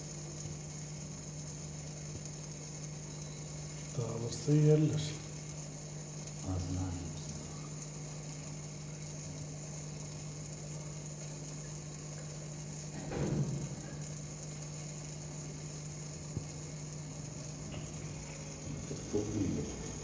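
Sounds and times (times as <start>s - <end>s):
aquarium pump humming: 0.0s - 20.0s.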